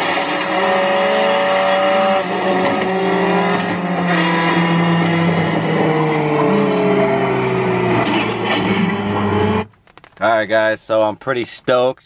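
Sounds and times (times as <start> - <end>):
car engines revving through speakers: 0.0 - 9.7.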